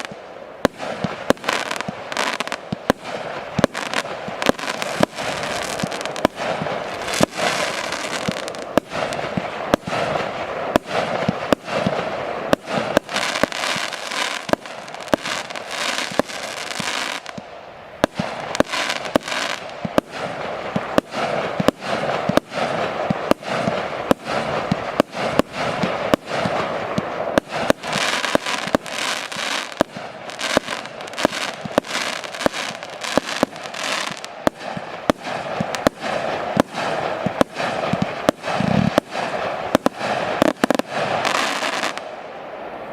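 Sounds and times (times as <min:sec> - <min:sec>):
fireworks hiss: 0:00.0 - 0:42.4
fireworks bangs: 0:00.0 - 0:42.9.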